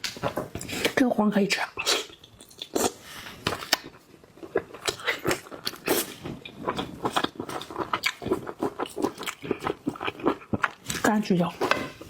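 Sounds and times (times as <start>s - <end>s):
person chewing: 1.8s - 12.0s.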